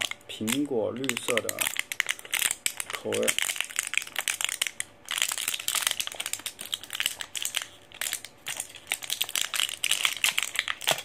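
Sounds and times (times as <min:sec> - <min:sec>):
blister packaging crinkling: 0:00.0 - 0:11.0.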